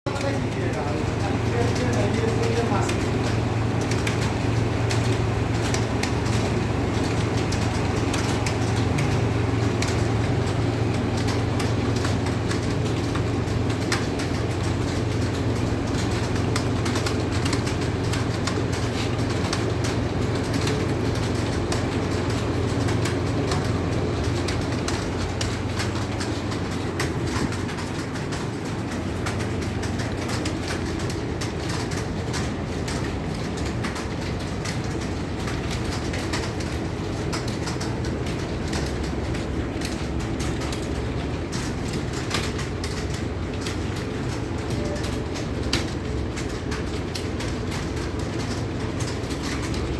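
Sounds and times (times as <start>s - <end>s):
keyboards clattering: 0.0s - 49.9s
steady low hum: 0.1s - 49.9s.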